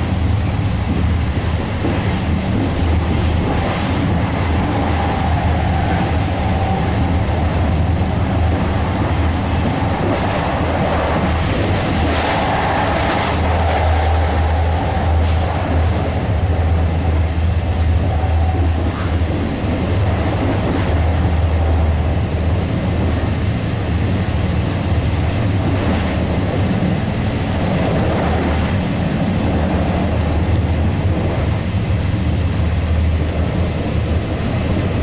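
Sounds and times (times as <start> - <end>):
train rumbling at speed: 0.0 - 35.0.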